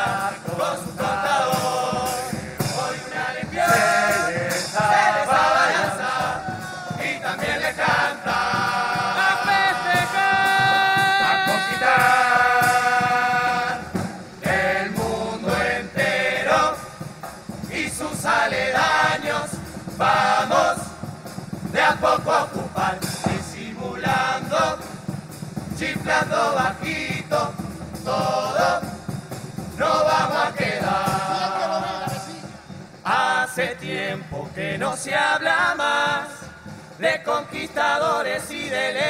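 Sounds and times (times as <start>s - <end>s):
male chorus singing: 0.0s - 39.0s.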